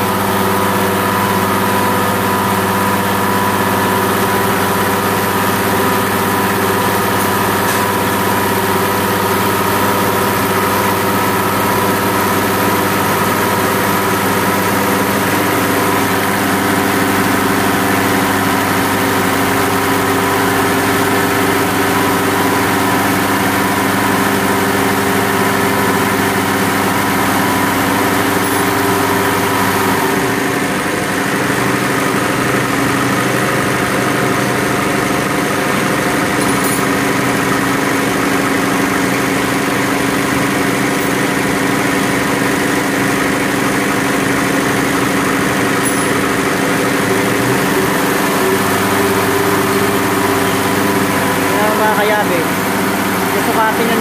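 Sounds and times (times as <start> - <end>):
injection pump test bench hum: 0.0 - 54.0.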